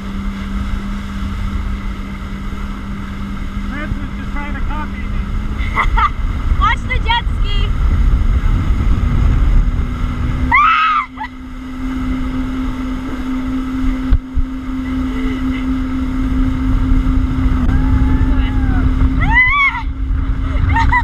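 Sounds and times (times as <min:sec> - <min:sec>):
jet ski engine drone: 0:00.0 - 0:21.0
wind buffeting microphone: 0:00.0 - 0:21.0.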